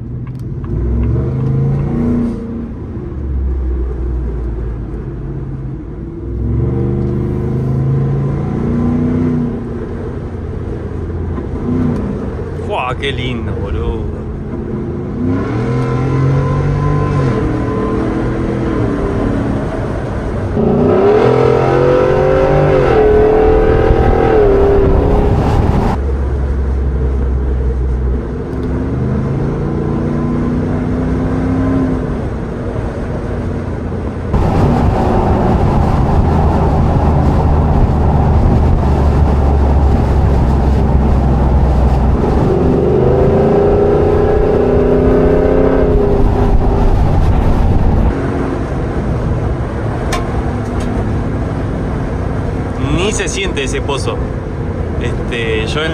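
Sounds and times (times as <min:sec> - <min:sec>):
wind and road noise: 0:00.0 - 0:55.9
engine accelerating hard: 0:06.2 - 0:55.9.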